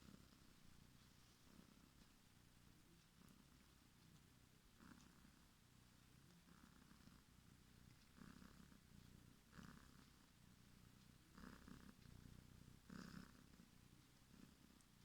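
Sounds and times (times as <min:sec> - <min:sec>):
cat snoring faintly: 0:00.0 - 0:15.0.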